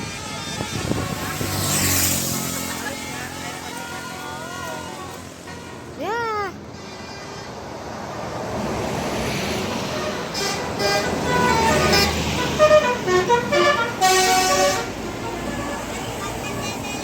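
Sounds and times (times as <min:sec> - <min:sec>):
bus multi-tone horn tune: 0:00.0 - 0:06.0, 0:06.6 - 0:08.1, 0:09.7 - 0:17.0
bus road noise: 0:00.0 - 0:17.0.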